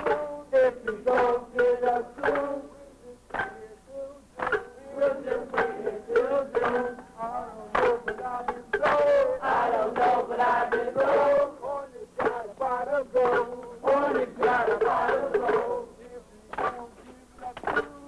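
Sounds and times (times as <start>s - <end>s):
man singing: 0.0s - 9.6s, 10.6s - 18.0s
music: 0.0s - 18.0s.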